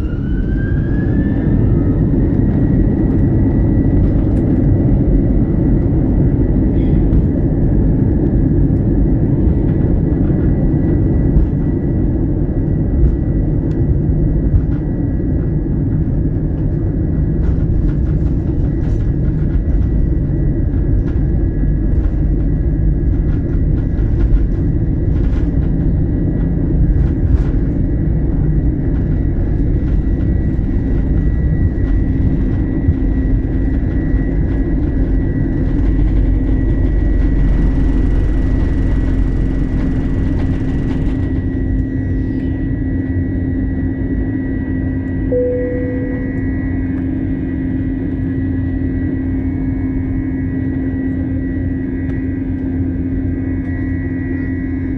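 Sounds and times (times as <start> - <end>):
aircraft clicks and knocks: 0.0 - 42.1, 46.1 - 54.9
jet engine rumble with whine: 0.0 - 54.9.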